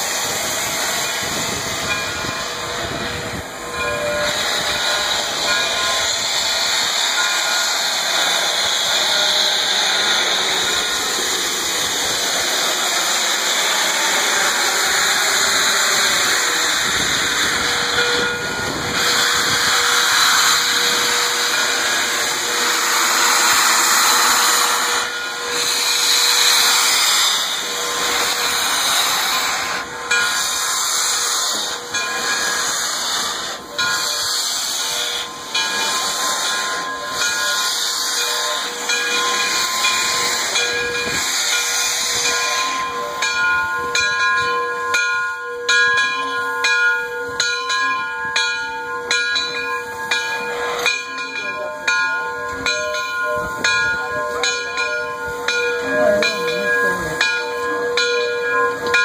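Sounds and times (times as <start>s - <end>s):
steam hissing from locomotive: 0.0s - 59.0s.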